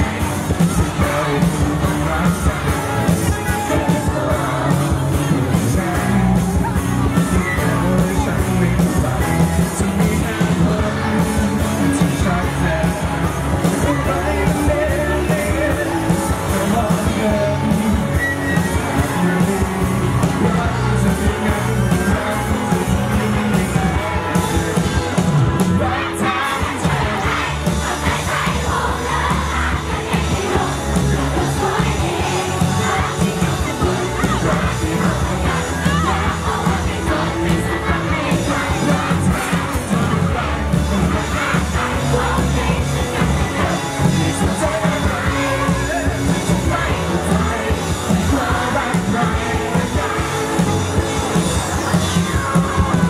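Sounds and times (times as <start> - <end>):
bass guitar: 0.0 - 53.0
drum kit: 0.0 - 53.0
electric guitars: 0.0 - 53.0
keyboard: 0.0 - 53.0
man singing lead vocals: 0.0 - 53.0.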